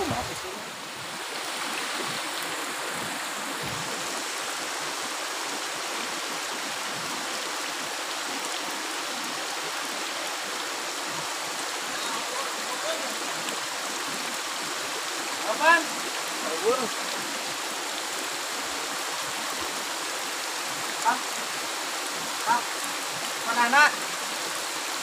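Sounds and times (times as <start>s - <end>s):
heavy rain on trees: 0.0s - 25.0s.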